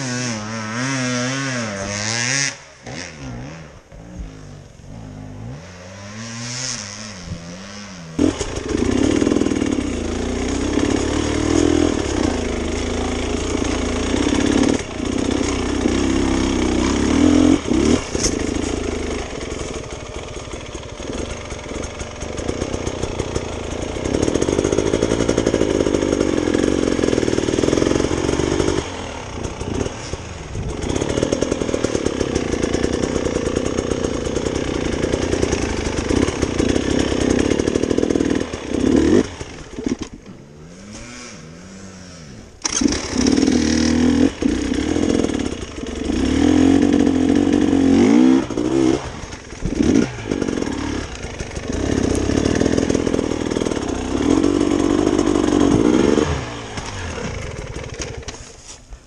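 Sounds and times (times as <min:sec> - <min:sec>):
motorcycle engine revving: 0:00.0 - 0:58.8.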